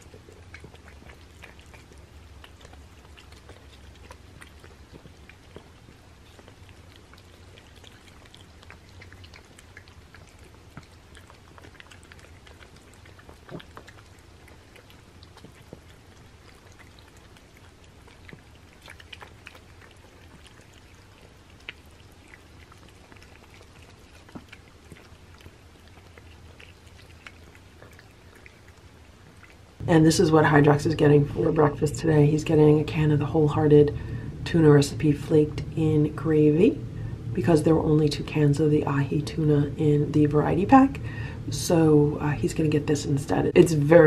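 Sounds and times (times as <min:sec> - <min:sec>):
cats chewing and licking: 0:00.0 - 0:44.0
low steady hum: 0:00.0 - 0:44.0.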